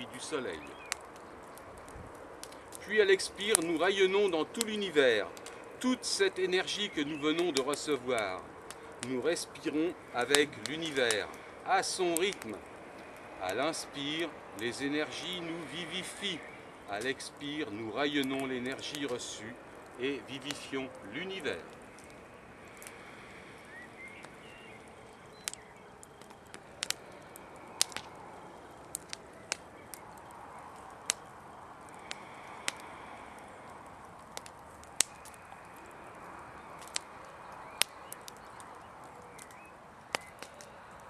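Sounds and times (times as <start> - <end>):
faint steady background: 0.0 - 41.0
wood fire crackling and popping: 0.0 - 41.0.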